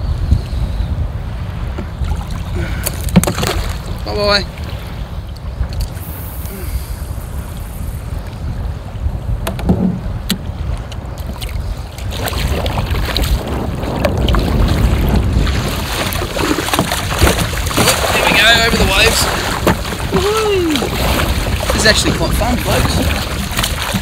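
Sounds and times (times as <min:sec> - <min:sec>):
wind buffeting microphone: 0:00.0 - 0:24.0
water slapping against hull: 0:01.5 - 0:06.2, 0:09.3 - 0:24.0.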